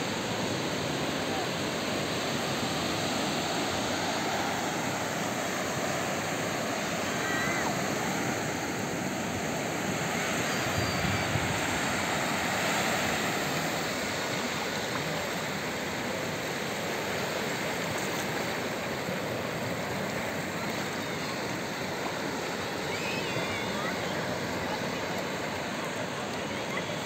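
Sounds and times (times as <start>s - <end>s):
ocean waves breaking on shore: 0.0s - 27.0s.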